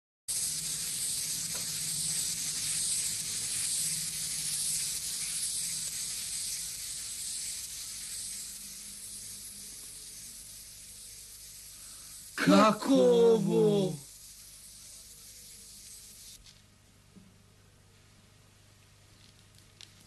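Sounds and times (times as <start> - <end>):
clockwork toy whirring: 0.3 - 16.4.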